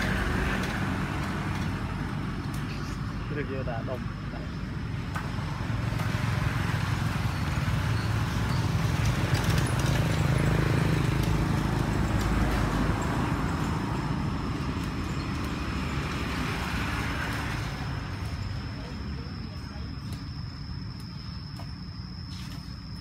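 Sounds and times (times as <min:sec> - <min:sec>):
vehicle passing by: 0:00.0 - 0:04.0, 0:04.7 - 0:20.0.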